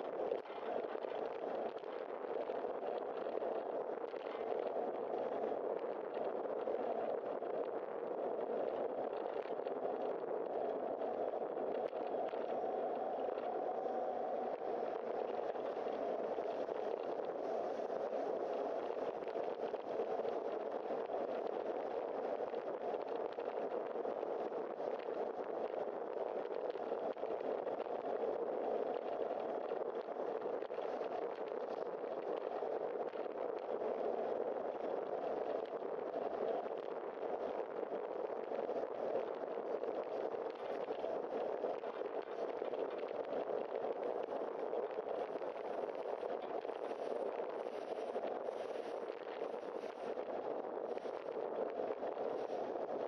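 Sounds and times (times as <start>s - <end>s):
wind noise: 0.0s - 53.0s.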